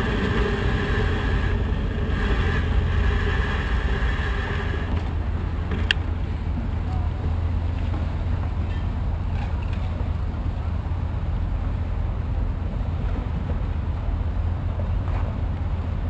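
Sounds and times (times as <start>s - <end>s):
cars passing: 0.0s - 16.0s
low rumble of street traffic: 0.0s - 16.0s.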